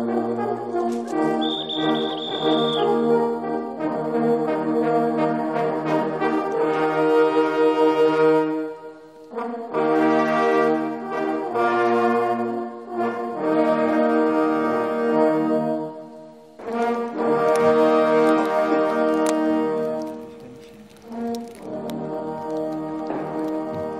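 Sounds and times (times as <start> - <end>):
brass horns playing chords: 0.0 - 23.9.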